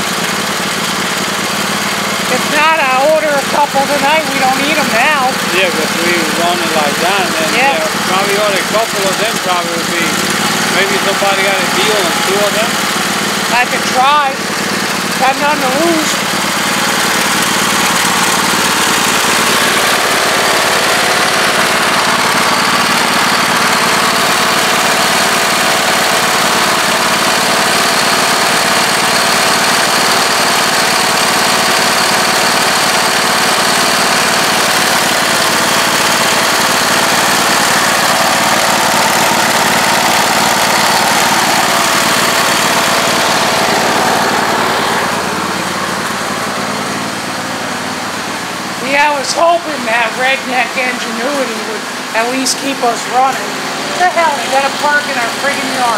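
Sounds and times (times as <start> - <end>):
lawn tractor engine running: 0.0 - 55.9.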